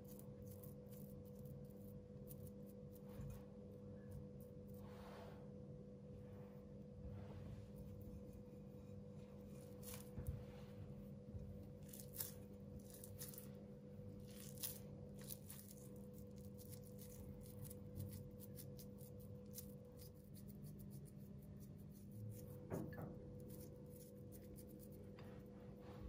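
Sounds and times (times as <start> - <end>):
faint rustling and handling noise: 0.0 - 26.0
steady low hum: 0.0 - 26.0.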